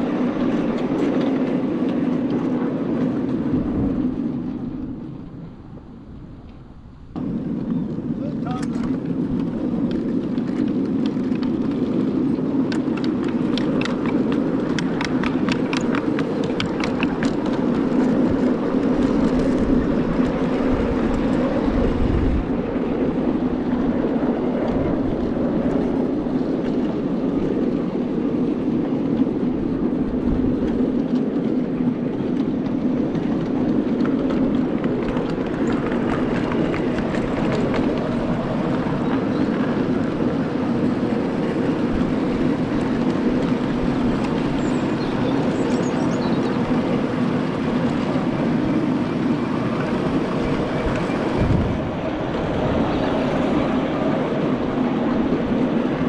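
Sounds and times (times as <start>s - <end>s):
locomotive engine hum: 0.0s - 56.0s.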